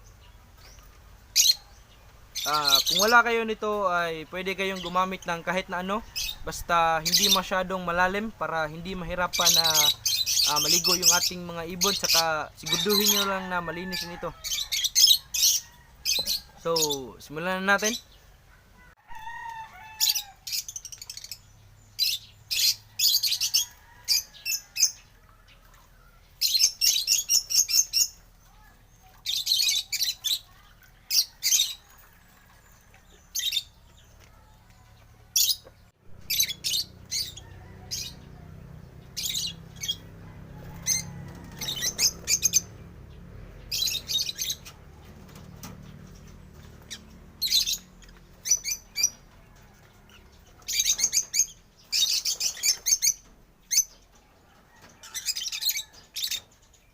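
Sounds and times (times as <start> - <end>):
lovebirds chirping shrilly: 0.0 - 56.9.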